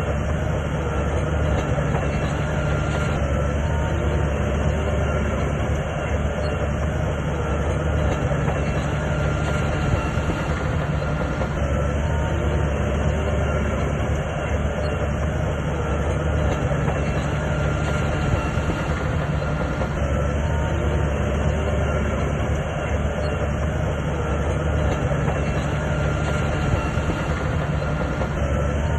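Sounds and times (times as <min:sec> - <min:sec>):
bulldozer diesel engine: 0:00.0 - 0:28.9
steel tracks clattering: 0:00.0 - 0:28.9.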